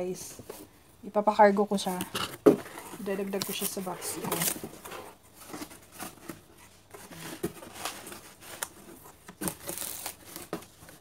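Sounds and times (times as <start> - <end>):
cardboard box rustling: 1.7 - 11.0
bubble wrap crinkling: 1.8 - 11.0.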